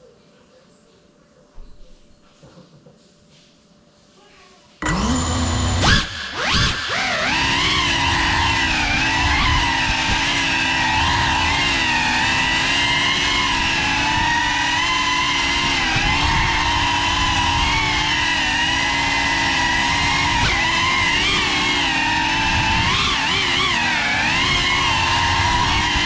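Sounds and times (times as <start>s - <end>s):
quadcopter motors whining: 4.8s - 26.0s.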